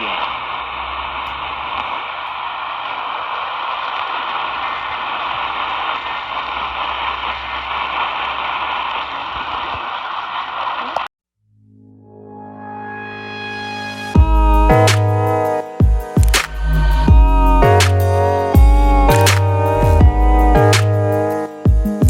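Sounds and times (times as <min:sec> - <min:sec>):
radio static hiss: 0:00.0 - 0:11.1, 0:14.2 - 0:22.0.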